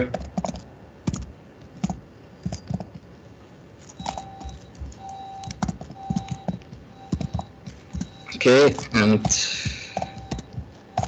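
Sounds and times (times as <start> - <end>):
keyboard keys clicking: 0.0 - 3.1, 4.0 - 11.0
faint steady tone: 2.1 - 11.0.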